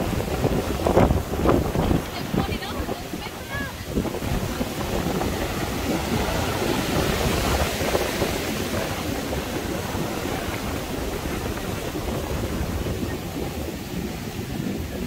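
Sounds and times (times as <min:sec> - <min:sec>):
surf washing on a beach: 0:00.0 - 0:15.0
wind buffeting the microphone: 0:00.0 - 0:15.0.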